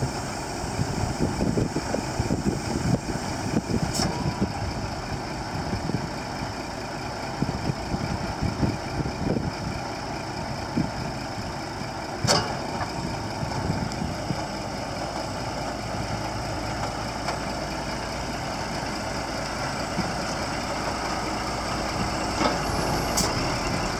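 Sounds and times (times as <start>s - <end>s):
truck diesel engine idling: 0.0s - 23.9s.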